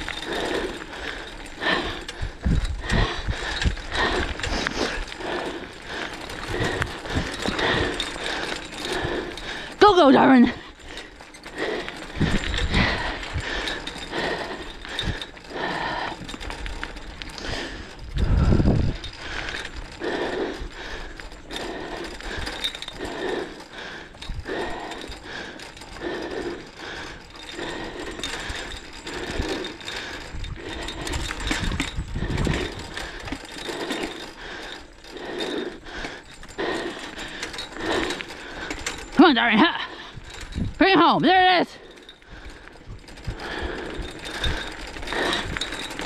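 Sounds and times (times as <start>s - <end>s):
wheeled rig rattling over gravel: 0.0s - 46.0s.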